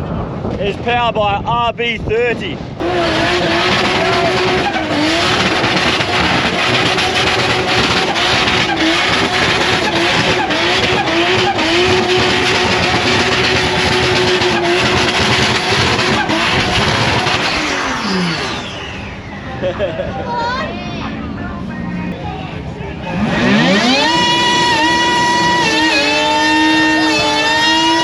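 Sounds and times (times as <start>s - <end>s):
car engine at high revs: 2.6s - 28.0s.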